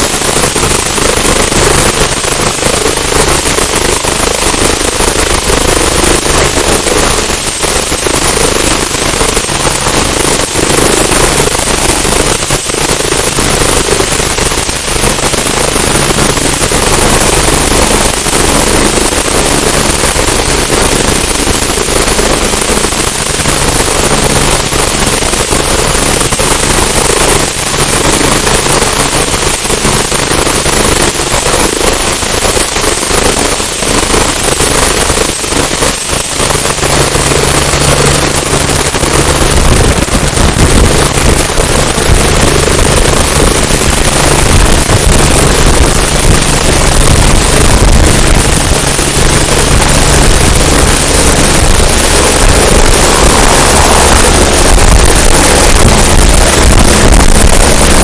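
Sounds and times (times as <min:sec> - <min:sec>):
helicopter rotor chopping: 0:00.0 - 0:58.0
turbine whine: 0:00.0 - 0:58.0.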